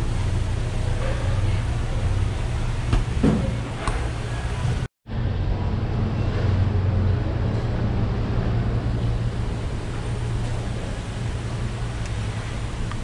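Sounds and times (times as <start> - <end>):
constant background noise: 0.0 - 13.0
low machine hum: 0.0 - 13.0.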